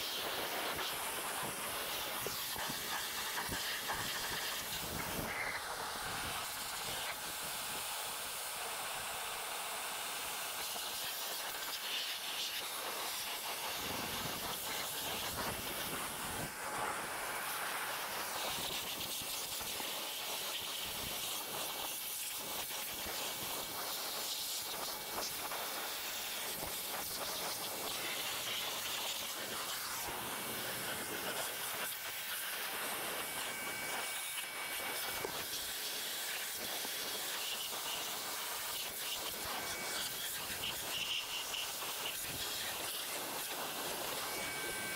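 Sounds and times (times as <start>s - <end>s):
pressure washer water jet hissing: 0.0s - 44.9s.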